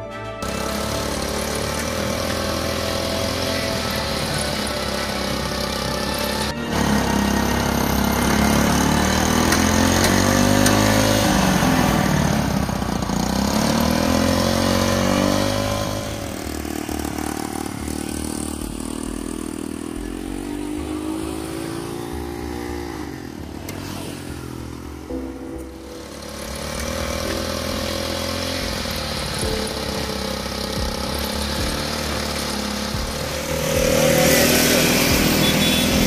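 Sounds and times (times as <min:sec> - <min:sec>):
small tractor engine revving: 0:00.0 - 0:36.0.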